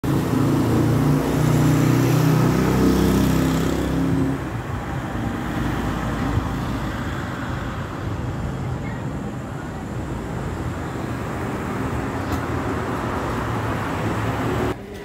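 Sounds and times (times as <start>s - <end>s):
traffic noise: 0.0s - 15.0s
vehicle engine humming: 0.0s - 15.0s.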